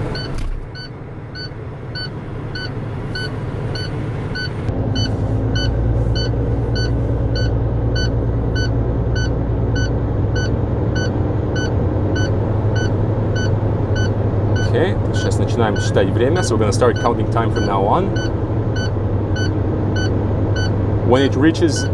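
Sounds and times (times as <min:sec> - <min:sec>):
warning alarm beeping: 0:00.1 - 0:20.7.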